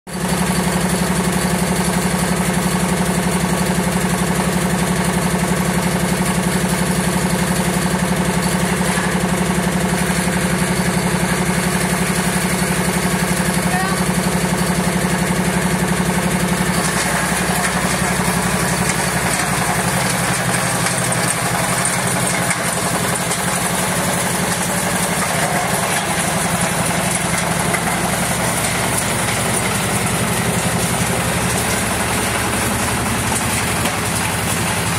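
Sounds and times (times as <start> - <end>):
diesel tractor engine running: 0.1 - 34.9.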